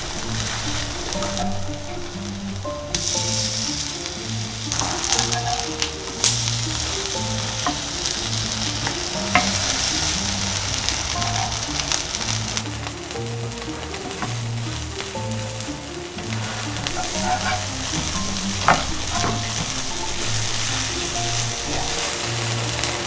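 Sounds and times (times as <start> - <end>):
background music: 0.0 - 23.0
batter sizzling in hot oil: 0.0 - 23.0.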